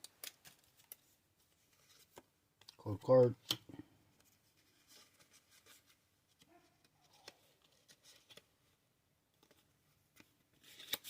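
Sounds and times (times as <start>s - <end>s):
trading cards rustling and ticking: 0.0s - 3.6s, 4.2s - 8.7s, 9.3s - 11.0s.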